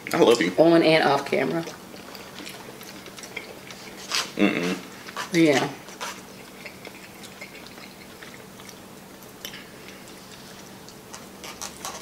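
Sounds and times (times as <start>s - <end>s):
faint steady hum: 0.0s - 12.0s
chewing: 1.2s - 12.0s.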